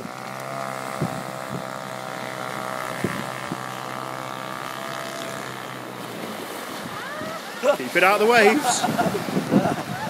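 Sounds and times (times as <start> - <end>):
model boat motor whining: 0.0 - 10.0.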